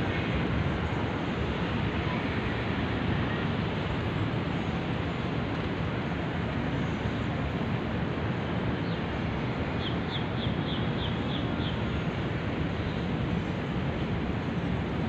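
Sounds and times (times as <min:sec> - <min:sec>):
city hum: 0:00.0 - 0:15.0.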